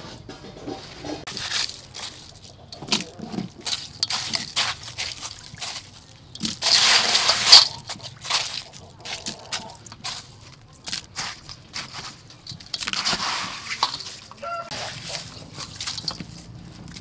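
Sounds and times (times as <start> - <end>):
ice crunching in a metal bowl: 1.3 - 17.0.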